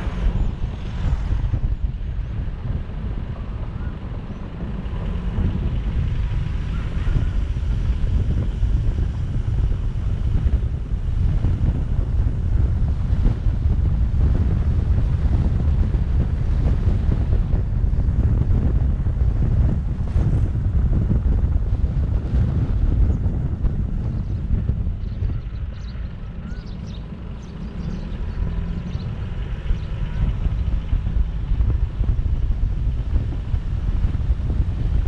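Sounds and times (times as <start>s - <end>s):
car driving rumble: 0.0s - 35.0s
wind buffeting microphone: 0.0s - 35.0s.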